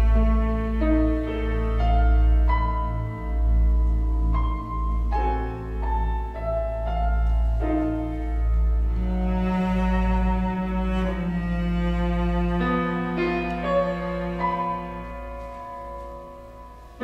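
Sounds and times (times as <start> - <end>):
cello and piano held notes: 0.0 - 17.0
deep low drone: 0.0 - 17.0.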